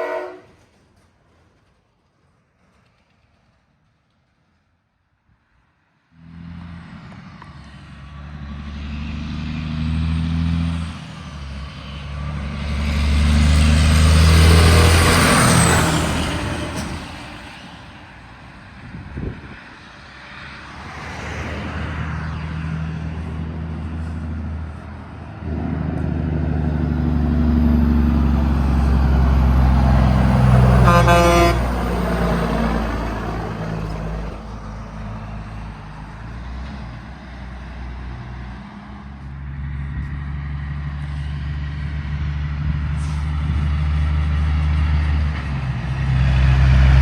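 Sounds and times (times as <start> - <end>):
diesel trucks passing by: 0.0 - 47.0.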